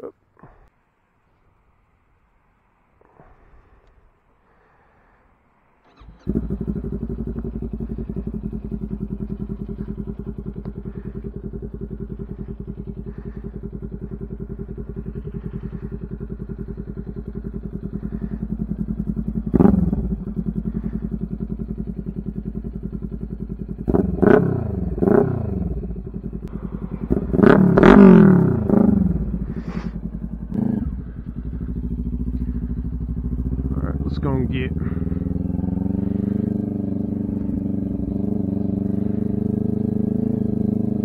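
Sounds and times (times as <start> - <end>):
motorcycle engine idling and revving: 5.7 - 41.0.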